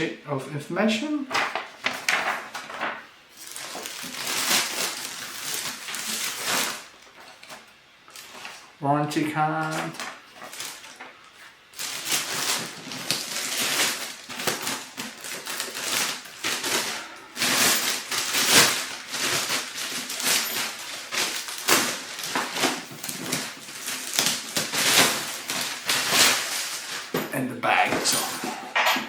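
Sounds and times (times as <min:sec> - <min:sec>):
packaging and bag rustling: 0:01.3 - 0:08.7, 0:09.6 - 0:28.6.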